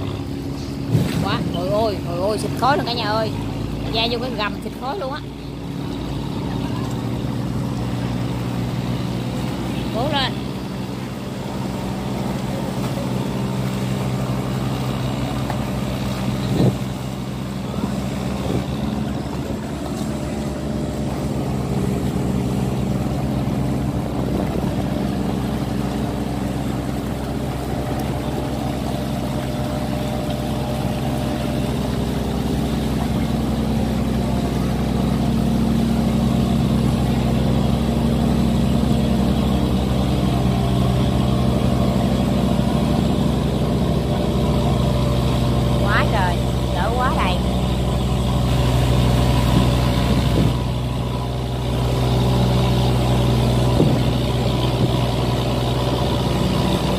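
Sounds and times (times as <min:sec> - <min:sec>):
diesel engine running hard: 0:00.0 - 0:56.9.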